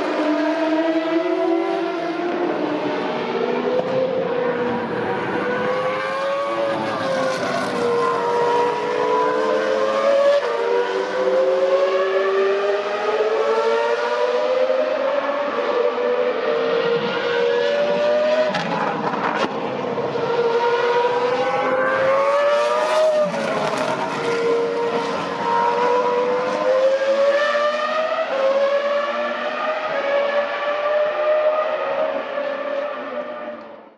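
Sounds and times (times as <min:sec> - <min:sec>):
race car engine revving: 0:00.0 - 0:33.8.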